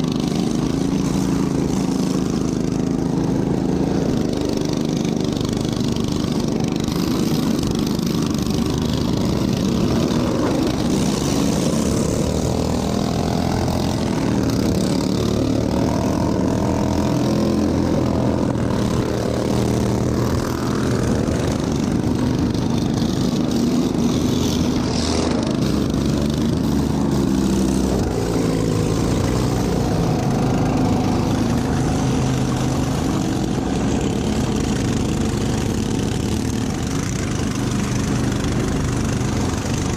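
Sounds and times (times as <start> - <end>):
lawn tractor engine running hard: 0.0 - 39.9.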